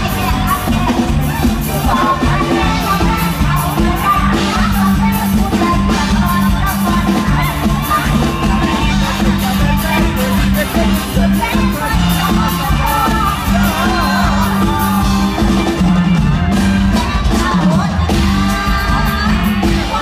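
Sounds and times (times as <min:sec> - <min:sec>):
crowd noise: 0:00.0 - 0:20.0
drum and bass beat: 0:00.0 - 0:20.0
live band playing: 0:00.0 - 0:20.0
woman singing: 0:00.0 - 0:20.0.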